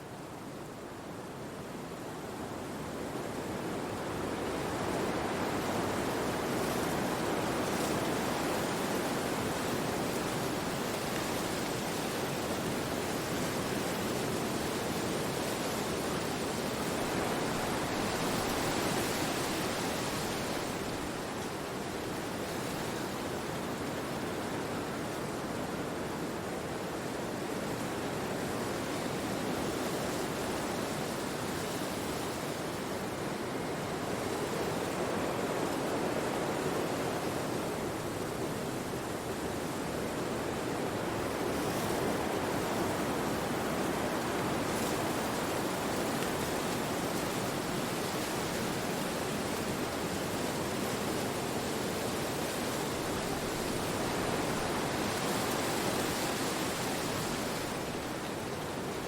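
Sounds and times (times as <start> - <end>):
wind through forest trees: 0.0 - 59.0.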